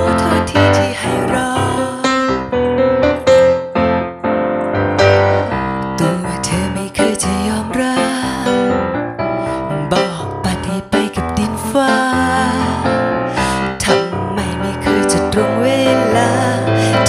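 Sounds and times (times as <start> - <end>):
piano chords and melody: 0.0 - 17.0.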